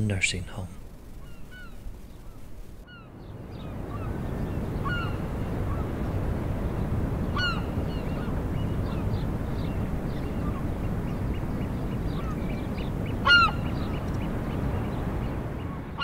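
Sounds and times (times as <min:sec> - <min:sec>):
birds giving sharp calls: 0:01.1 - 0:06.0, 0:07.2 - 0:16.0.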